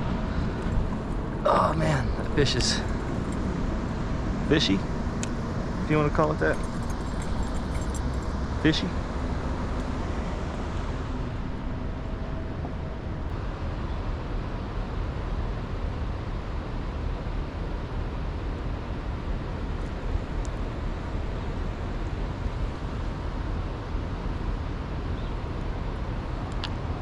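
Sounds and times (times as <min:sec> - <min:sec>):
low outdoor rushing noise: 0:00.0 - 0:27.0.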